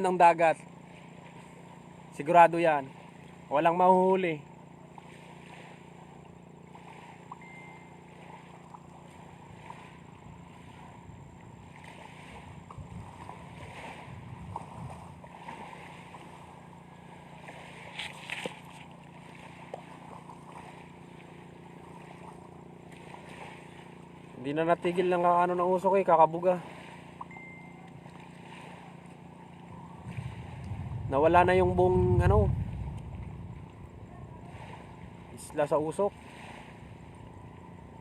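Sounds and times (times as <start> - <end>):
low motor hum: 0.0 - 38.0
water noise: 0.0 - 38.0
wind: 0.0 - 38.0.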